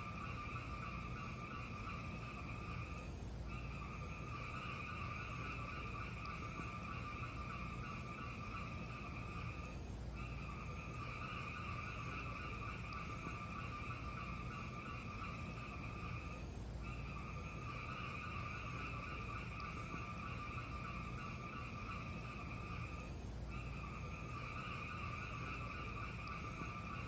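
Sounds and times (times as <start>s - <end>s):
fire crackles: 0.0s - 27.0s
fireplace fire burning: 0.1s - 27.0s.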